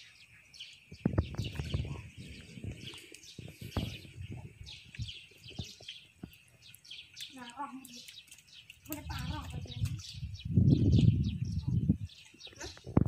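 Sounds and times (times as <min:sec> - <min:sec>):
water splashing and sloshing: 0:00.9 - 0:13.0.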